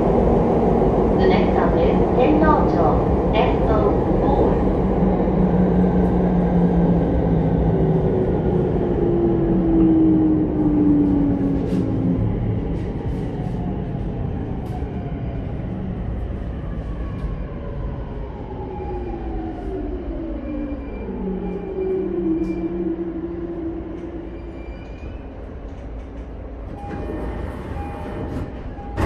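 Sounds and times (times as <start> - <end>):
wheels rumbling on rails: 0.0 - 29.0.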